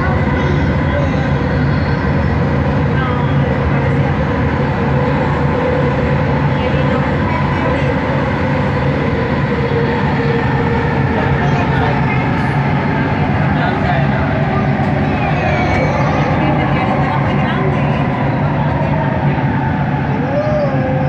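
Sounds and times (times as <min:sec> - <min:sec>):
faint passenger voices: 0:00.0 - 0:21.0
metro train rumble and whine: 0:00.0 - 0:21.0.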